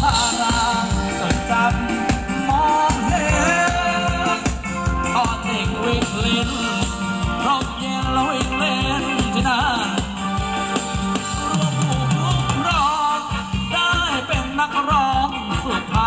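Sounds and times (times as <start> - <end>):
fast drum beat: 0.0 - 16.0
live dance band playing: 0.0 - 16.0.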